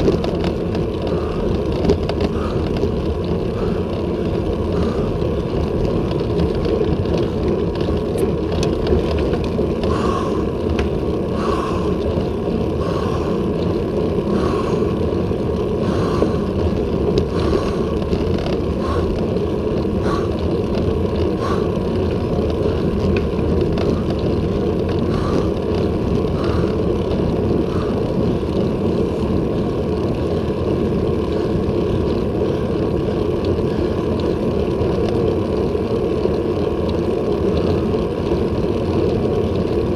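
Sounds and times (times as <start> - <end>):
bicycle tyres on asphalt: 0.0 - 39.9
wind rush on microphone: 0.0 - 39.9.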